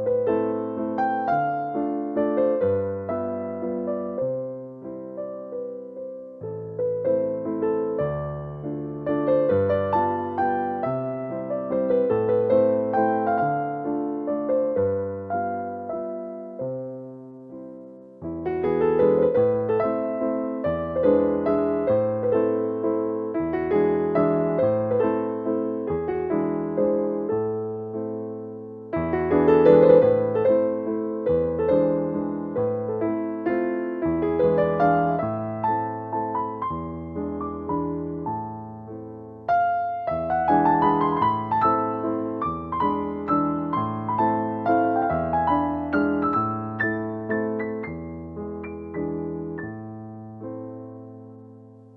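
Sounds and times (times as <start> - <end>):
gentle piano music: 0.0 - 51.9.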